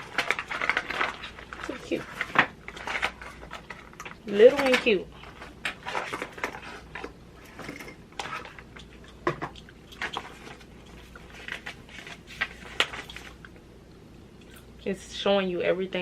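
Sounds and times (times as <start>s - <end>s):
packaging rustling: 0.0s - 13.5s.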